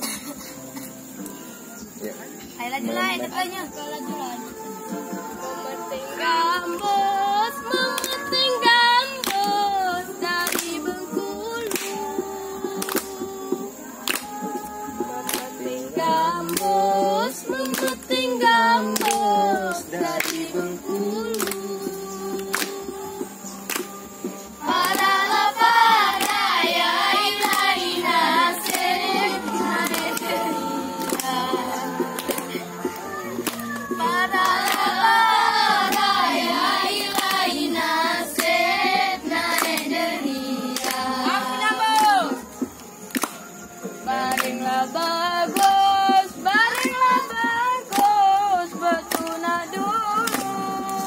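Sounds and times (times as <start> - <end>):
girls singing folk song: 0.0 - 51.0
hand clapping: 6.7 - 51.0.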